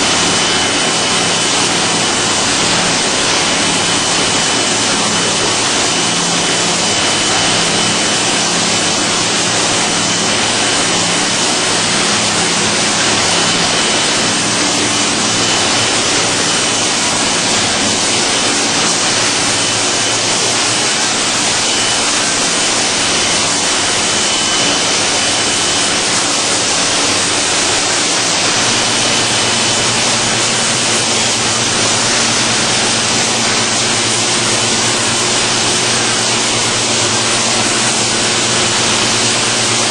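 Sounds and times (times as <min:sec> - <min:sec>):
faint high whine: 0:00.0 - 0:39.9
machine hum: 0:00.0 - 0:39.9
rushing water: 0:00.0 - 0:39.9.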